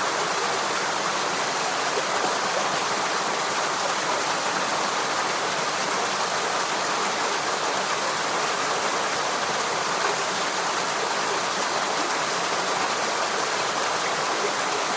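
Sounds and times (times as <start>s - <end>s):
running water rushing: 0.0s - 14.9s.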